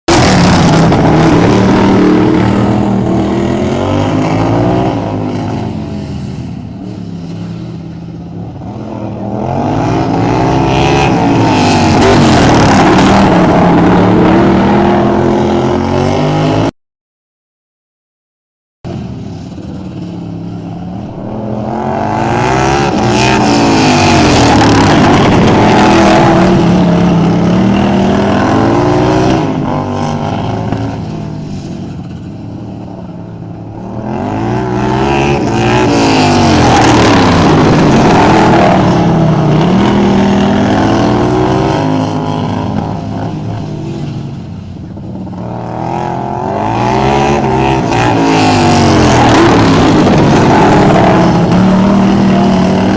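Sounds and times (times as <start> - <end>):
racing lawnmower engines revving: 0.1 - 16.7, 18.9 - 52.9.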